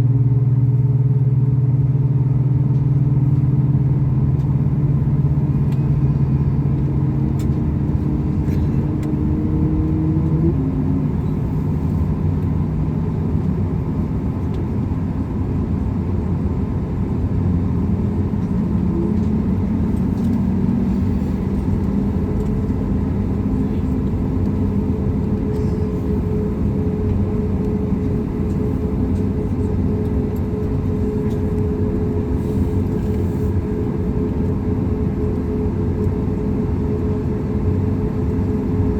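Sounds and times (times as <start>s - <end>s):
jet engines idling in cabin: 0.0s - 38.9s.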